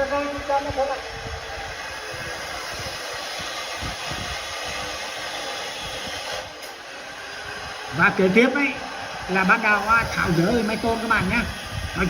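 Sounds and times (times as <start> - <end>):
power cutter cutting steel: 0.0 - 12.0.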